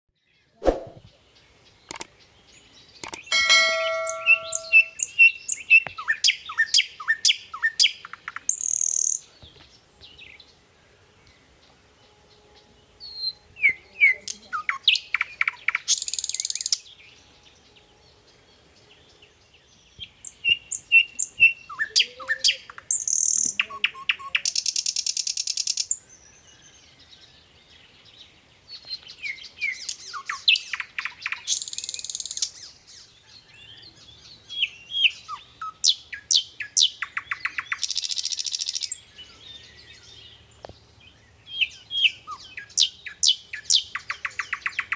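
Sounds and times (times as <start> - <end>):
songbird singing: 0.2 - 44.9.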